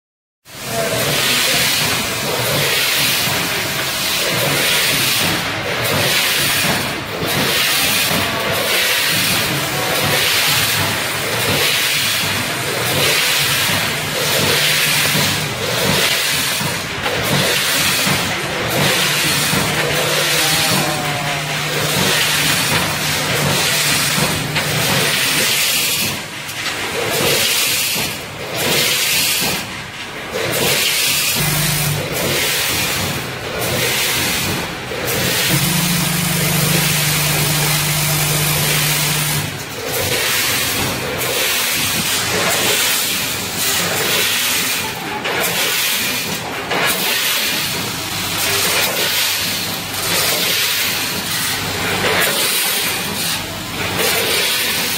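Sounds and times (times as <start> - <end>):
packaging machine pulsing hiss: 0.5 - 54.9.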